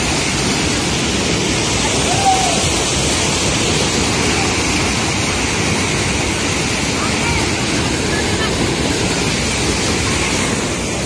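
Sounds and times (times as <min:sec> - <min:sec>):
water gushing into a tank: 0:00.0 - 0:11.0.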